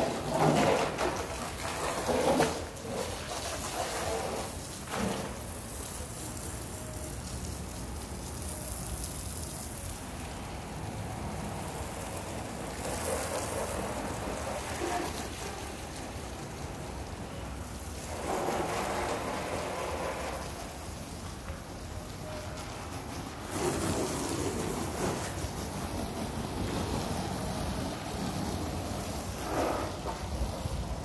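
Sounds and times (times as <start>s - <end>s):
water spraying onto car: 0.0s - 31.0s.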